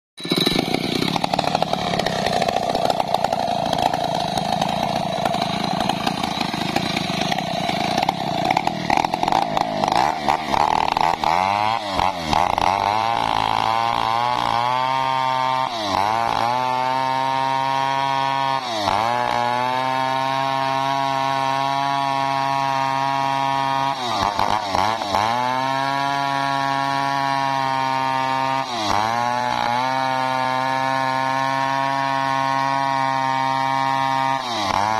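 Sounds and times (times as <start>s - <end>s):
chainsaw cutting log: 0.2s - 34.9s.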